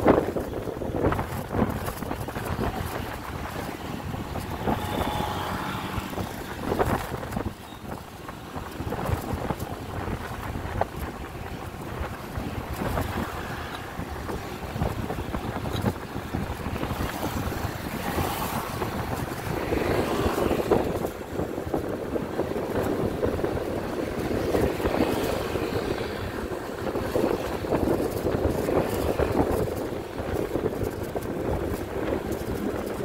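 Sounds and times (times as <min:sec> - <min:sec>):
road noise: 0:00.0 - 0:33.0
vehicle engine: 0:00.0 - 0:33.0
wind buffeting microphone: 0:00.0 - 0:33.0.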